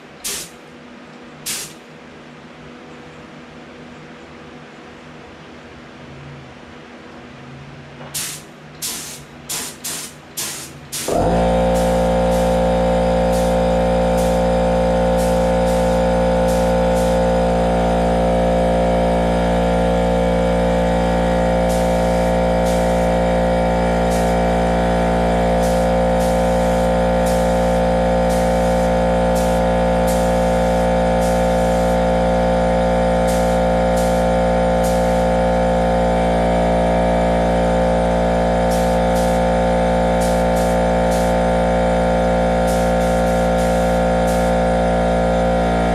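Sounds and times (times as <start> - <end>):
air compressor running: 0.0 - 0.6, 1.4 - 1.8, 8.1 - 45.9.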